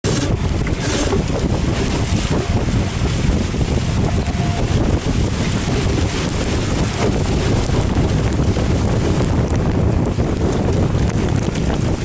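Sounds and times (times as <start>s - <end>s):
water rushing along hulls: 0.0s - 12.0s
wind buffeting microphone: 0.0s - 12.0s.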